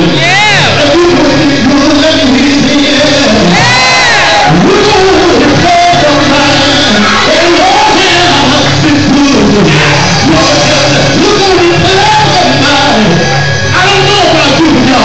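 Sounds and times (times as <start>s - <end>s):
gospel quartet singing: 0.0s - 13.5s.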